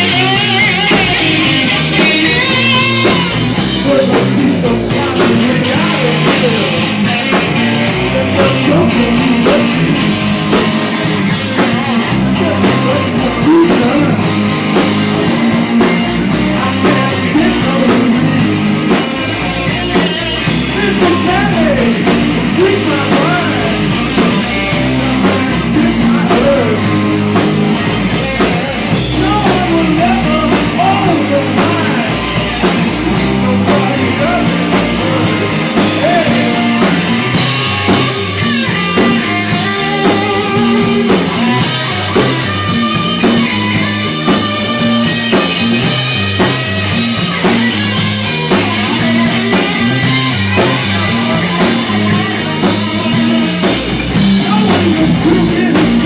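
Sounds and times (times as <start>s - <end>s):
electric guitar bending pitch: 0.0s - 56.0s
live rock band playing: 0.0s - 56.0s.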